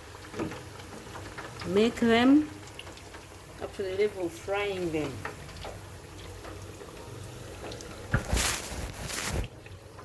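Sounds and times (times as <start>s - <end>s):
pancakes sizzling in hot oil: 0.0s - 10.0s.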